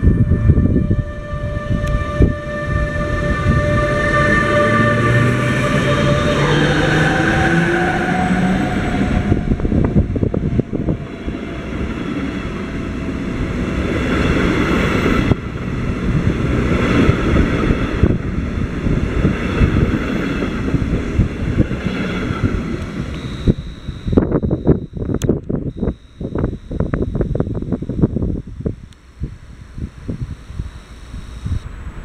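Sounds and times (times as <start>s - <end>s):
wheels rumbling on rail: 0.0s - 25.6s
electric locomotive whine: 0.0s - 32.0s.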